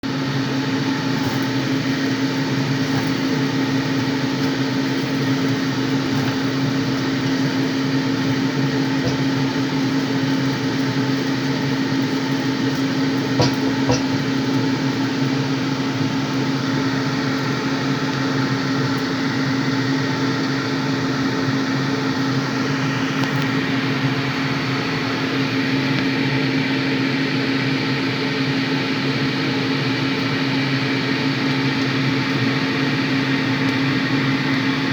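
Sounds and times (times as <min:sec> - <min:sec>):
fan motor humming: 0:00.0 - 0:34.9.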